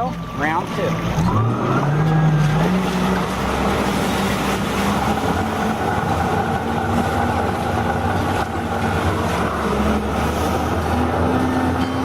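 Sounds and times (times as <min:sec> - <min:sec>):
jet ski engine running: 0:00.0 - 0:12.0
rush of water and wind: 0:00.0 - 0:12.0.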